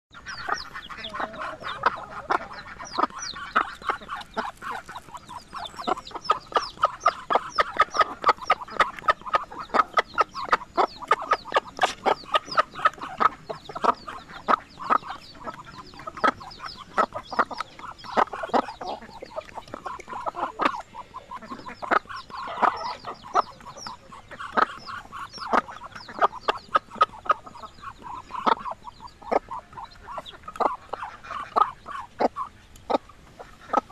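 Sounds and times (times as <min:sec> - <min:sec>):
birds pecking: 0:00.1 - 0:33.9
chickens clucking: 0:00.1 - 0:33.9.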